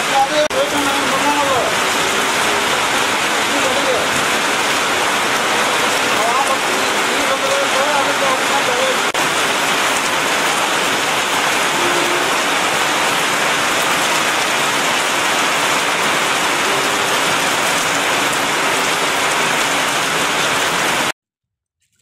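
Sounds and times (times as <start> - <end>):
rain falling on wet ground: 0.0 - 21.1.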